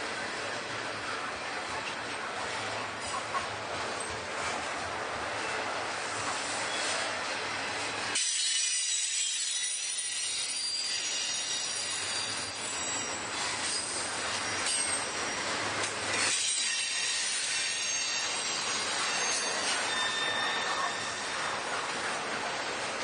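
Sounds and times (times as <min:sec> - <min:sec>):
train wheels squealing on rail: 0:00.0 - 0:22.9.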